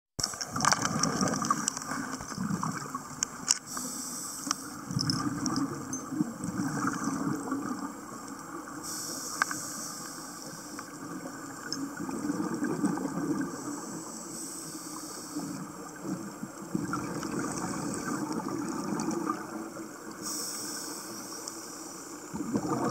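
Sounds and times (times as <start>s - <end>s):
regulator bubbles underwater: 0.2s - 22.9s.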